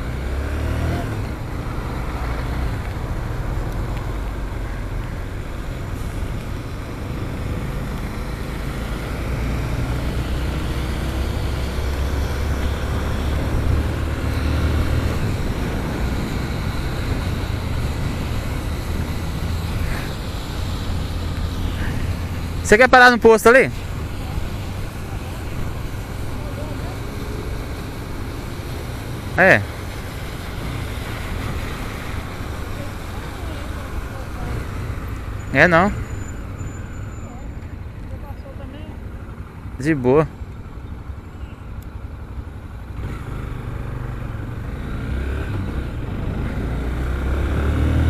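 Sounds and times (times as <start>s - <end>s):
tyres hissing on wet road: 0.0s - 40.3s, 41.1s - 48.0s.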